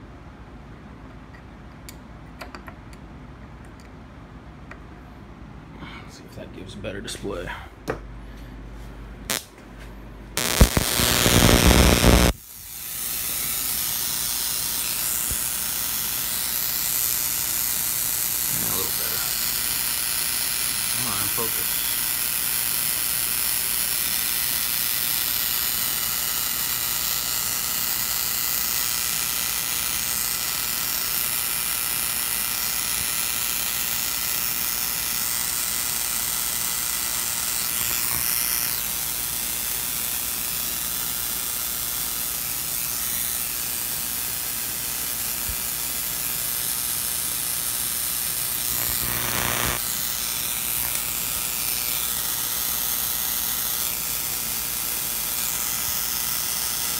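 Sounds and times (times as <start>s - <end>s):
high hiss of rapid sparking: 10.4s - 56.9s.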